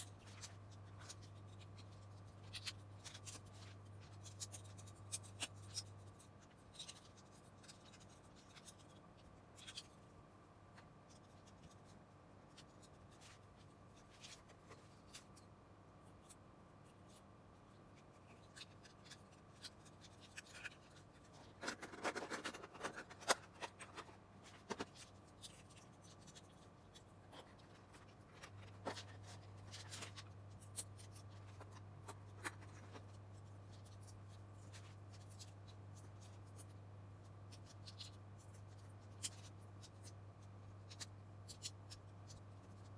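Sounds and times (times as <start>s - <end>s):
faint low hum: 0.0s - 42.9s.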